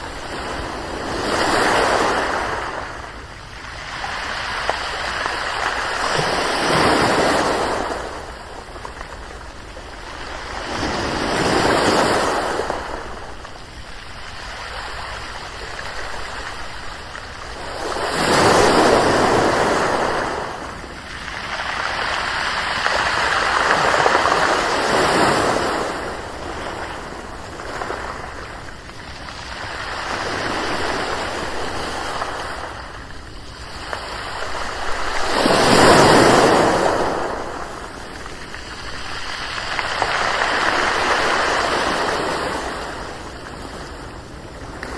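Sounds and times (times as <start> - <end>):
ocean waves breaking on shore: 0.0 - 44.9.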